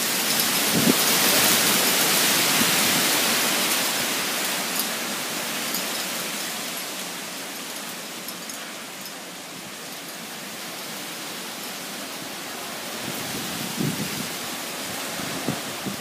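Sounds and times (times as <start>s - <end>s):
wind gusting through trees: 0.0s - 16.0s.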